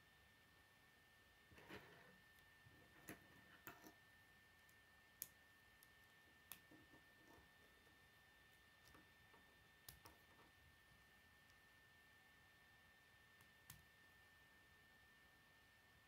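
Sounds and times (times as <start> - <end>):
faint high-pitched hum: 0.0 - 16.0.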